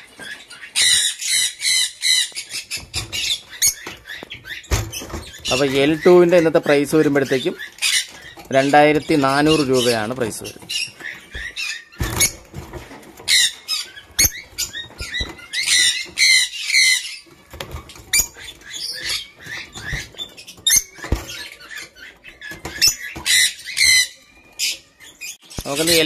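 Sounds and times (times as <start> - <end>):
birds chirping and squeaking: 0.0 - 26.0.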